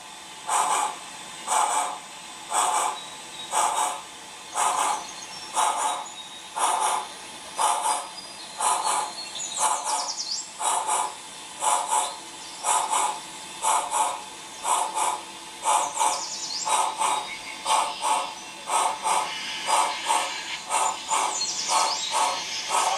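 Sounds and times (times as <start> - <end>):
model steam locomotive chuffing: 0.0 - 22.9.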